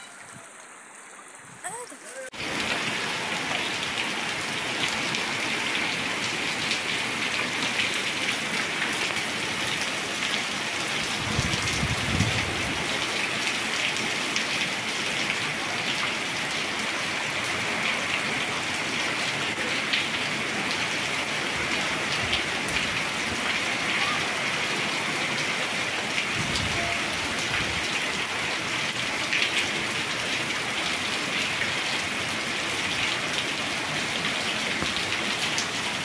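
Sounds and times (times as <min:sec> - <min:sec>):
rain on pavement and cars: 0:00.0 - 0:36.0.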